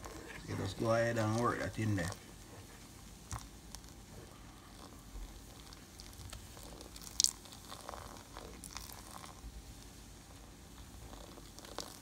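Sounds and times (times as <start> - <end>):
spoon mixing wet batter: 0.0 - 12.0.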